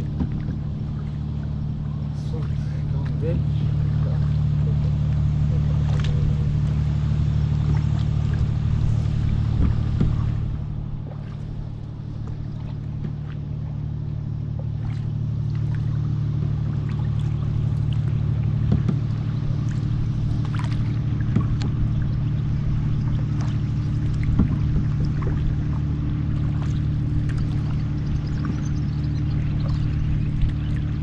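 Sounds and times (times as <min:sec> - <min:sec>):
boat motor humming: 0:00.0 - 0:31.0
water splashing against hull: 0:00.0 - 0:31.0.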